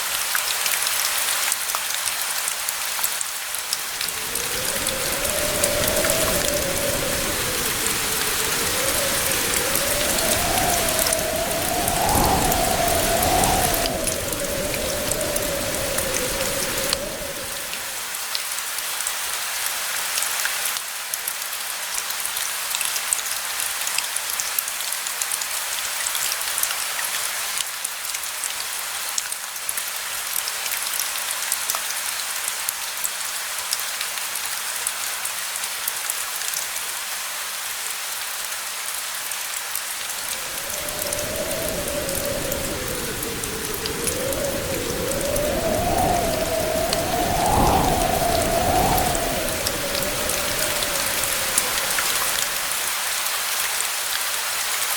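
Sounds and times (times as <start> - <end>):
rain falling: 0.0 - 54.9.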